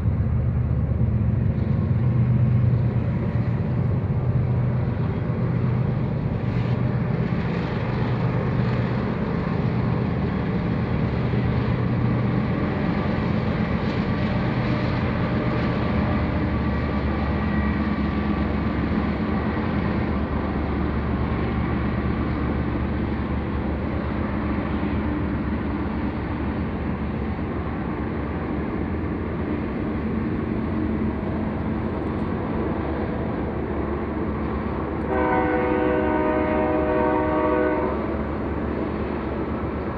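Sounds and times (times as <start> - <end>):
locomotive engine drone: 0.0 - 39.9
train rumbling past: 0.0 - 39.9.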